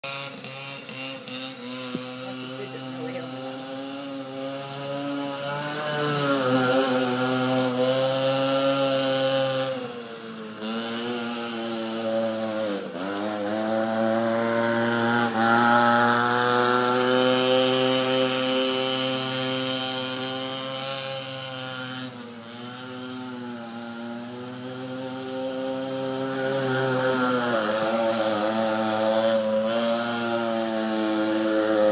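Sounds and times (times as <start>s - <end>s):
small atv engine revving: 0.0s - 31.9s.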